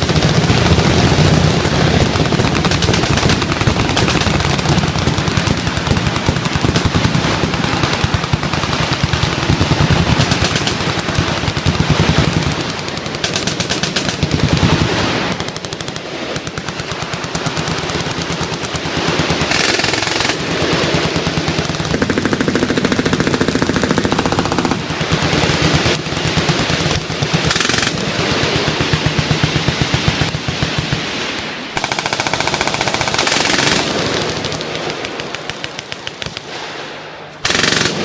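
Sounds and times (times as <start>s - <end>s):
machine guns firing full-auto: 0.0s - 36.6s, 37.4s - 38.0s.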